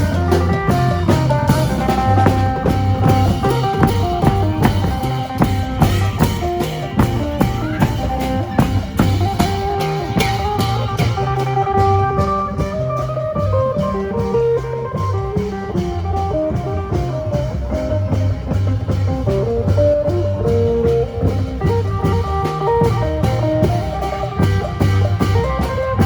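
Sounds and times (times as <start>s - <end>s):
bass and drums beat: 0.0s - 26.0s.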